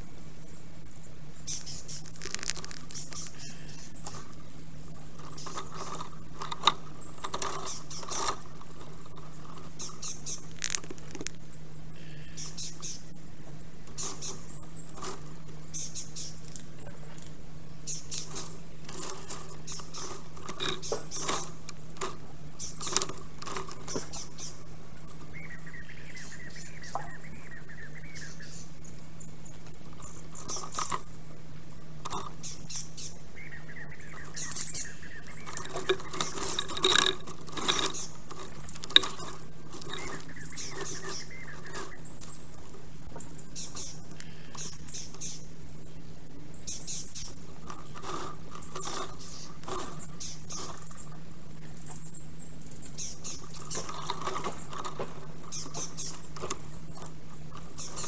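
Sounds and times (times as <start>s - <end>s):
steady hiss and low hum: 0.0s - 58.0s
clicks and rustles of sticks: 1.4s - 11.6s, 12.4s - 27.1s, 29.4s - 33.1s, 34.2s - 45.4s, 46.9s - 58.0s.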